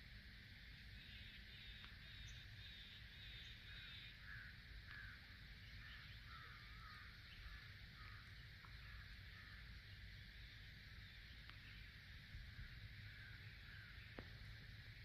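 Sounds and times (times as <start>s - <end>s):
birds calling faintly: 0.7s - 15.0s.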